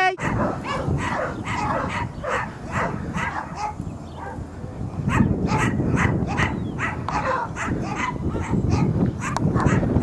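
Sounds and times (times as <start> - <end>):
dog barking rapidly: 0.1 - 4.4, 5.1 - 10.0.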